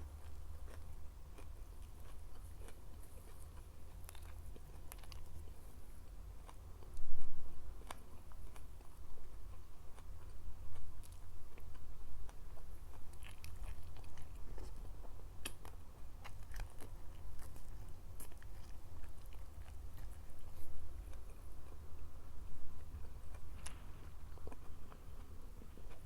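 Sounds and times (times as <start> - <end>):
crunchy chewing: 0.0 - 26.0
steady low hum: 0.0 - 26.0.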